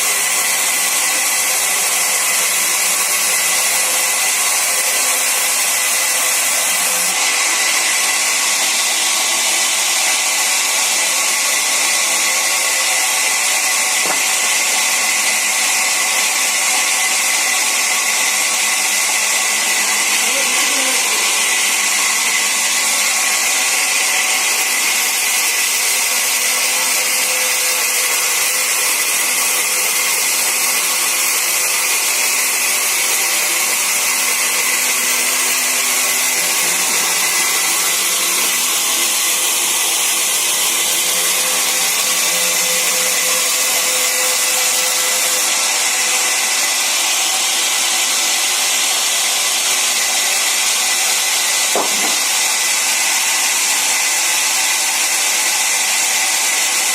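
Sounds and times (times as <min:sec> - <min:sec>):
saw whirring through wood: 0:00.0 - 0:56.9.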